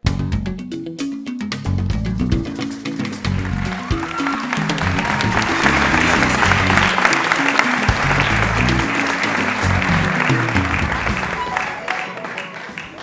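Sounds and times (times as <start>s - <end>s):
music with stepping bass line: 0.0s - 11.4s
audience clapping: 2.4s - 13.0s.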